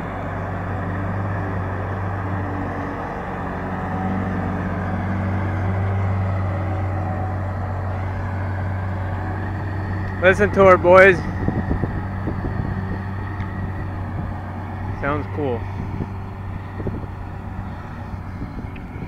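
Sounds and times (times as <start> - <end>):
harvester engine humming: 0.0 - 19.0.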